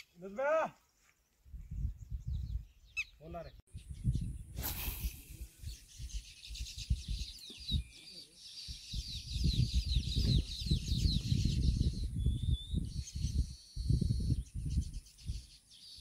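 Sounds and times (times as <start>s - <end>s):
birds chirping downward-sliding: 0.0s - 16.0s.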